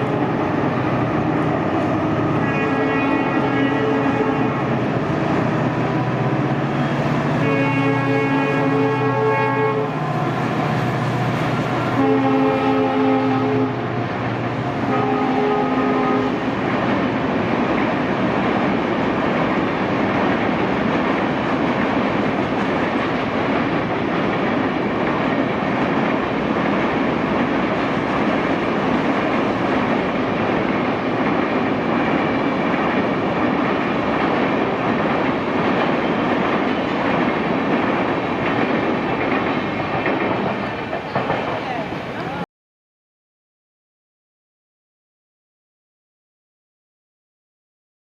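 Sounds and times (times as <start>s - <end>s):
train wheels rumbling on rails: 0.0s - 42.4s.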